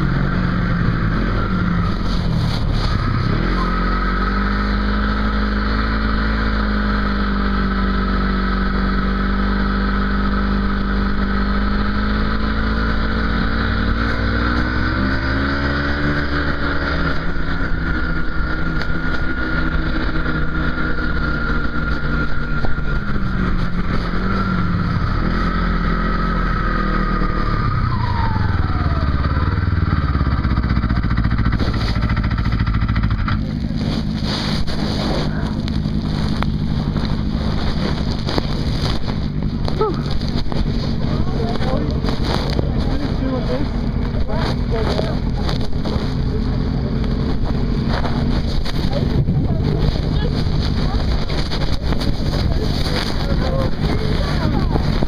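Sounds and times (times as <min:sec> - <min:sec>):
engine running: 0:00.0 - 0:55.0
steady high whine: 0:00.0 - 0:55.0.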